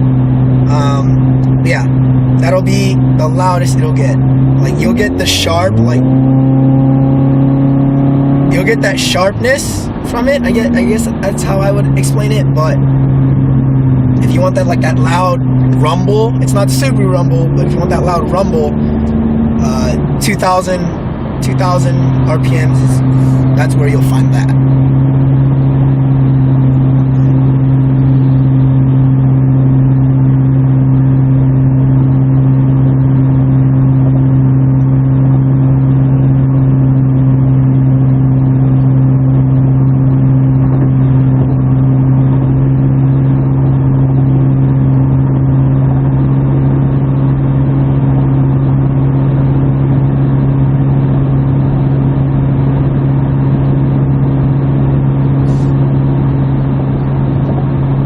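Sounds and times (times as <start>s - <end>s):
exhaust drone inside car: 0.0s - 58.0s
road noise: 0.0s - 58.0s.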